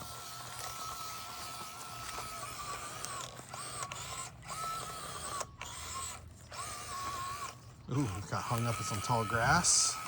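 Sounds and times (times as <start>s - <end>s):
small electric motor whining: 0.0s - 10.0s.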